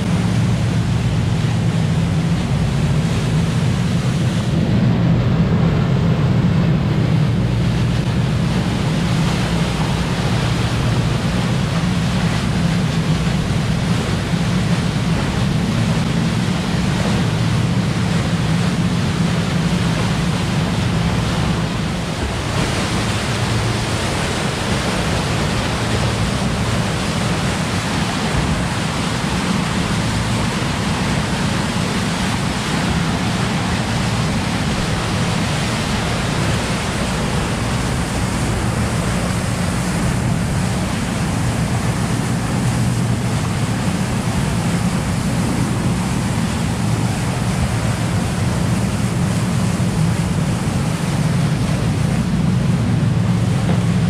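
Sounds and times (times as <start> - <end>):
boat engine drone: 0.0 - 54.0
wind on microphone: 0.0 - 54.0.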